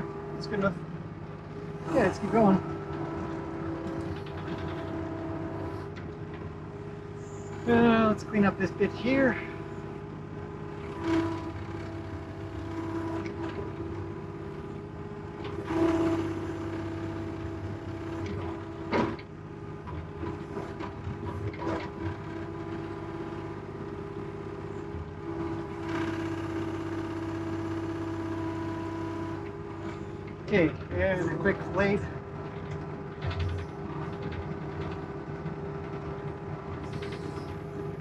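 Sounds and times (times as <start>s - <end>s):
excavator engine running: 0.0s - 38.0s.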